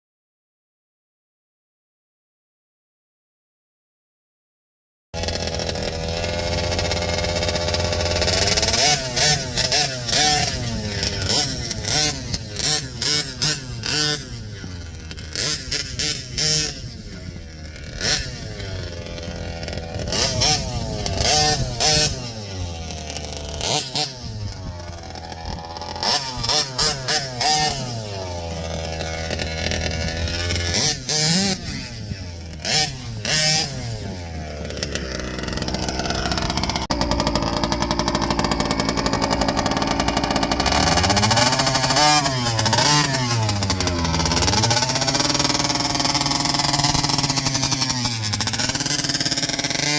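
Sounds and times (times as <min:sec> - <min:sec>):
two-stroke rc car engine revving: 0:05.2 - 0:49.9.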